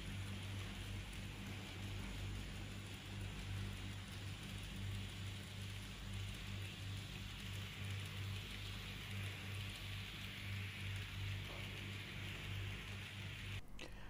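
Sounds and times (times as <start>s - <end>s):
model train wheels rattling: 0.0s - 13.6s
low pulsing hum: 0.0s - 14.0s.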